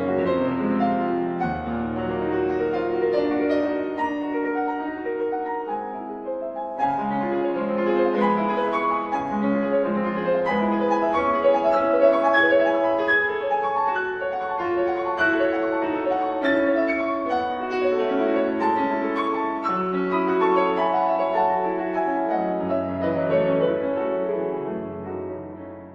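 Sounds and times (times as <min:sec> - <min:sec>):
piano background music: 0:00.0 - 0:25.9.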